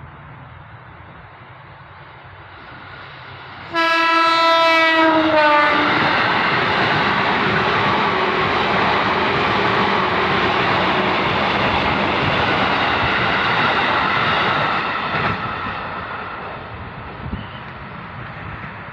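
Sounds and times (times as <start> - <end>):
electric train passing at speed: 0.0 - 18.9.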